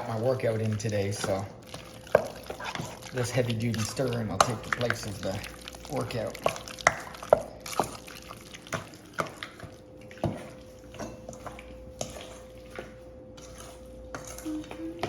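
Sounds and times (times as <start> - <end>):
wet squelches of marinade stirring: 0.0 - 15.0.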